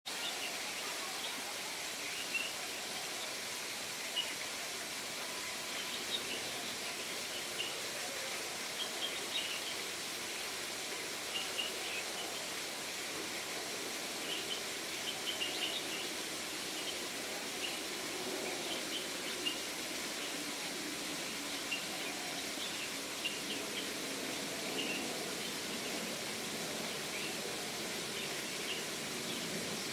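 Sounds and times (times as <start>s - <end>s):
steady outdoor hiss: 0.1s - 29.9s.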